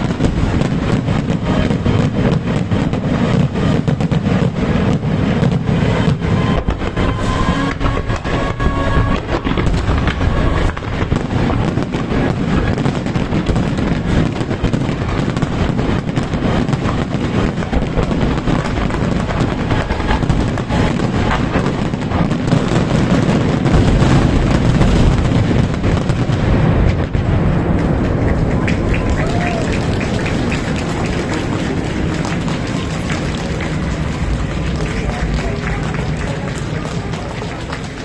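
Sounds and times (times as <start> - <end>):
fireworks bursts and booms: 0.0 - 38.0.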